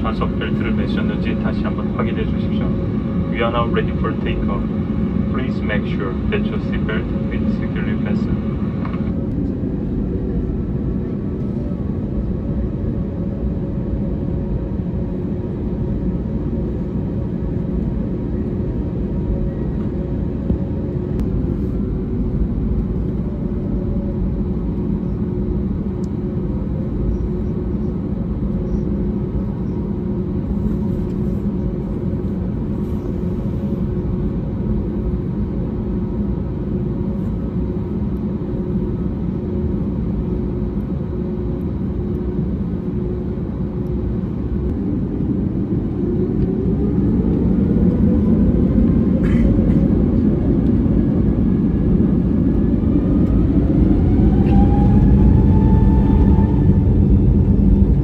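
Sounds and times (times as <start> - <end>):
airliner engine hum: 0.0 - 58.0
jet engine whine rising: 0.0 - 58.0.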